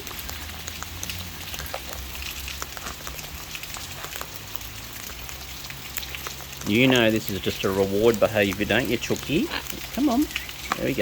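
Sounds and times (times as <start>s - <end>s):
heavy rain hissing: 0.0s - 11.0s
water drips ticking: 0.0s - 11.0s.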